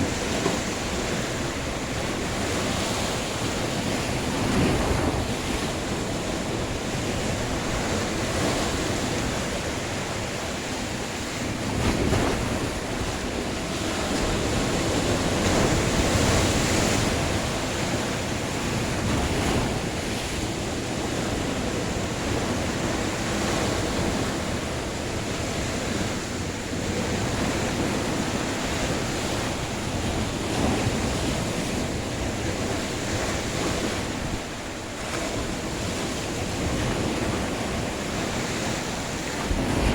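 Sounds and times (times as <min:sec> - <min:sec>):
ocean surf breaking: 0:00.0 - 0:39.9
wind buffeting microphone: 0:00.0 - 0:39.9.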